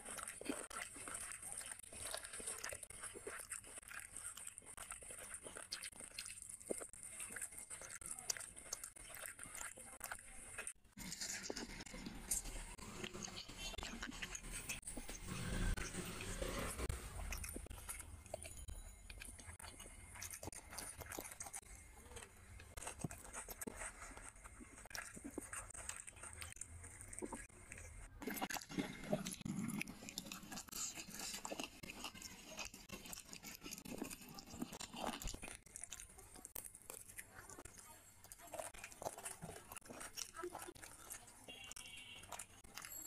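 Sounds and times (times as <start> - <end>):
chewing mouth clicks and smacks: 0.0 - 43.0.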